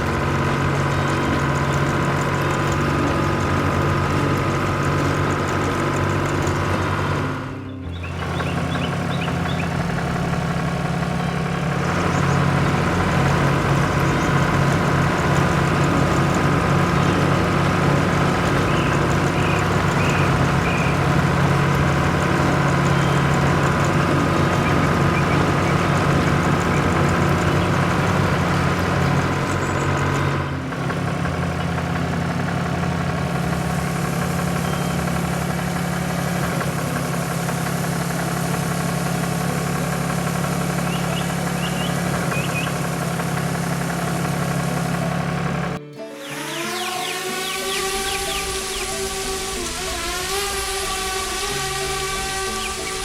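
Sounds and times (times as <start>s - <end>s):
farm vehicle engine running: 0.0s - 53.0s.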